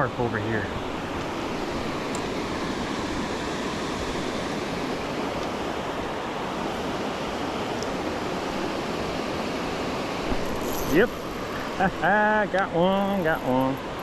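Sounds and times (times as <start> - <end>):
creek water flowing: 0.0 - 14.0.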